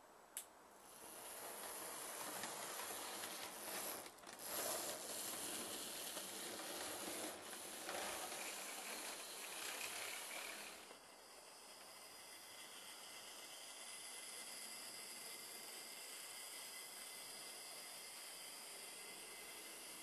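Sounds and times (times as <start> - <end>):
model train whirring and rattling: 0.8 - 20.0.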